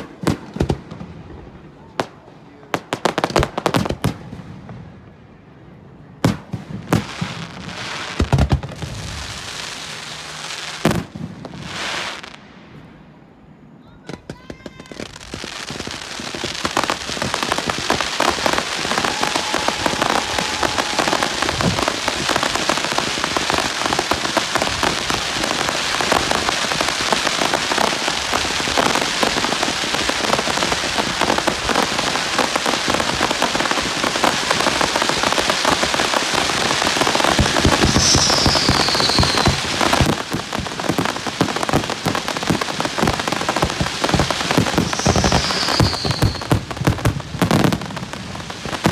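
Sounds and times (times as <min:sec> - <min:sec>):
fireworks crackling: 0:00.0 - 0:48.9
descending firework whistle: 0:06.2 - 0:48.9.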